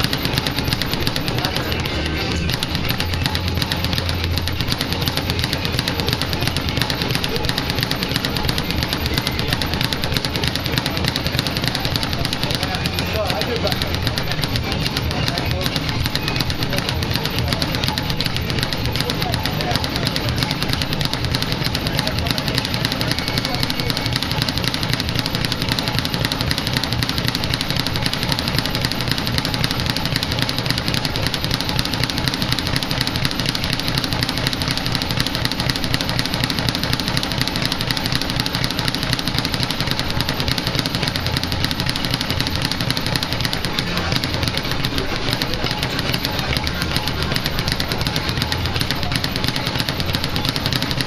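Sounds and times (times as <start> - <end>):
speed bag rattling: 0.0 - 51.0.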